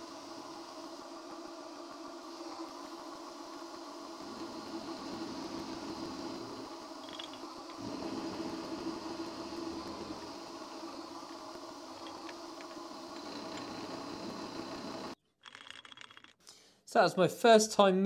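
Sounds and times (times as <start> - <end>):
milling machine humming: 0.0 - 15.2.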